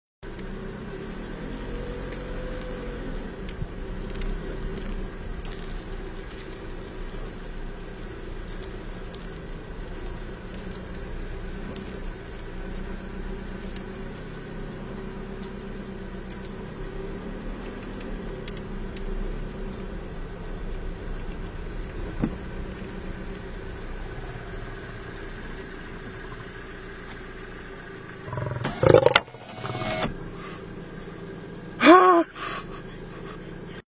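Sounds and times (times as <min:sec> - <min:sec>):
car engine humming: 0:00.2 - 0:33.8.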